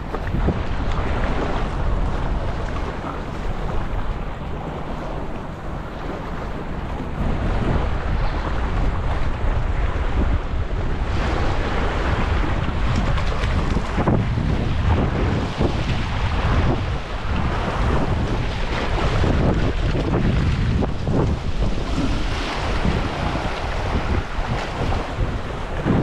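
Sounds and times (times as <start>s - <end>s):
water lapping against rocks: 0.0s - 9.8s, 11.1s - 26.0s
wind buffeting microphone: 0.0s - 26.0s.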